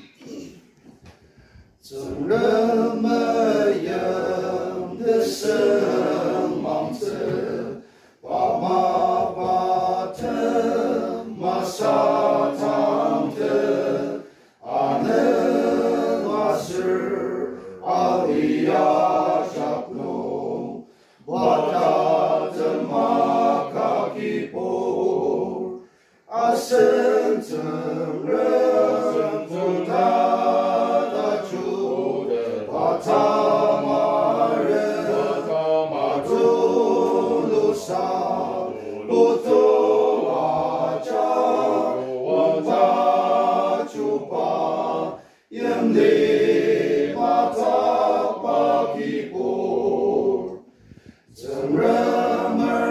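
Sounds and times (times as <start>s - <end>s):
men's group singing a hymn: 1.4s - 52.9s.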